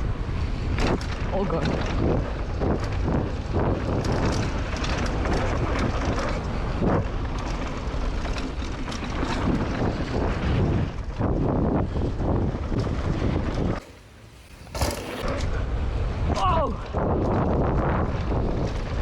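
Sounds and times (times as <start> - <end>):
wind on microphone: 0.0 - 13.8, 14.8 - 19.0
bike tyres on dirt: 0.0 - 19.0
bike chain and frame rattling: 0.4 - 15.6, 16.9 - 19.0.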